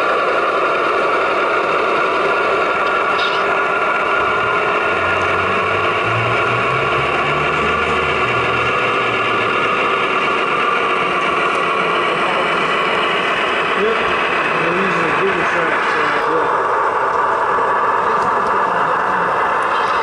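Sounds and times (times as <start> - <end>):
model locomotive diesel engine sound: 0.0 - 20.0.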